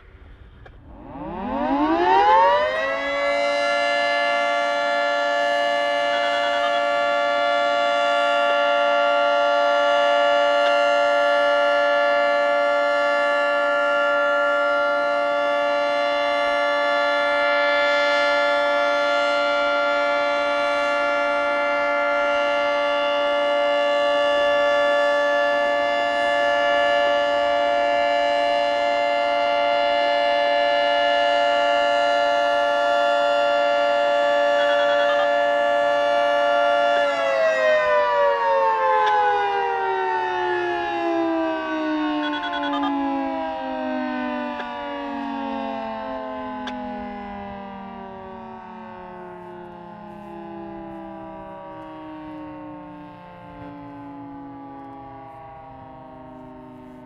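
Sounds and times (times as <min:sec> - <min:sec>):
warning siren steady chord: 0:00.0 - 0:57.0.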